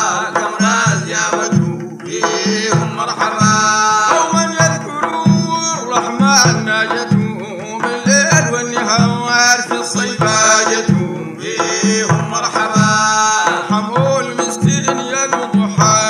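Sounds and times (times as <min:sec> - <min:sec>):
hand drums beating: 0:00.0 - 0:16.0
person singing: 0:00.0 - 0:16.0.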